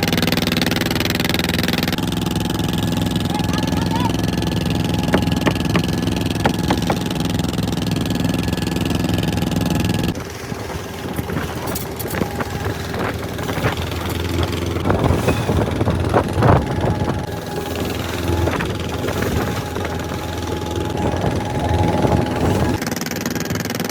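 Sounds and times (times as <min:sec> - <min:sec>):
boat engine running: 0:00.0 - 0:23.9
knocks and clatter: 0:04.3 - 0:23.9.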